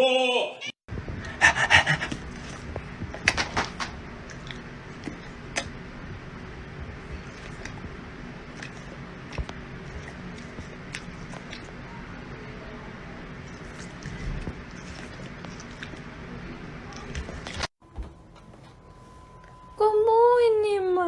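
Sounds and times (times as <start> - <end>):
low room hum: 0.9 - 21.0.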